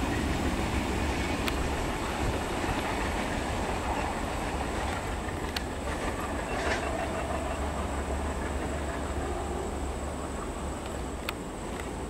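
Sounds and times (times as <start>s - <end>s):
rail joint clicks: 0.0s - 12.0s
train wheels rumbling on rails: 0.0s - 12.0s.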